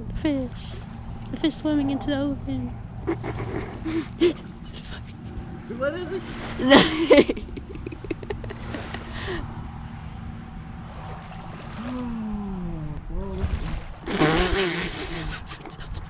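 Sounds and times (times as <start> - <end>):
low open-air rumble: 0.0 - 16.0.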